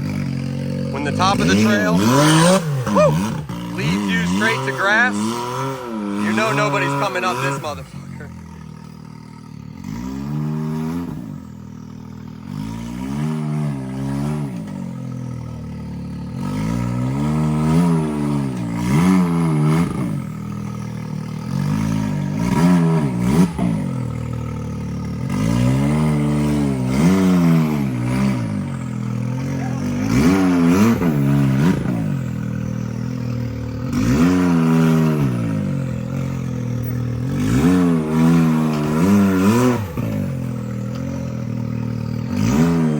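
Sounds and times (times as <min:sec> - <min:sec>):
engine revving in bursts: 0:00.0 - 0:42.9.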